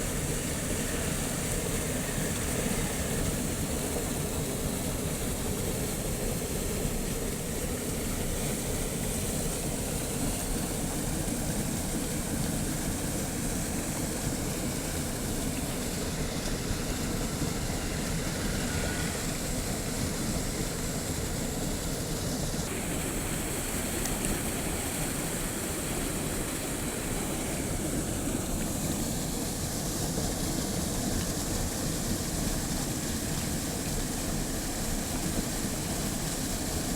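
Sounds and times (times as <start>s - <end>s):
water rushing: 0.0s - 36.9s.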